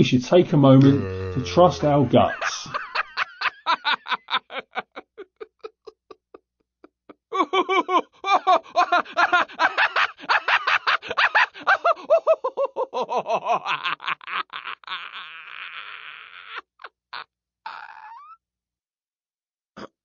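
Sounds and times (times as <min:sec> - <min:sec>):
cartoon character laughing: 0:01.5 - 0:18.0.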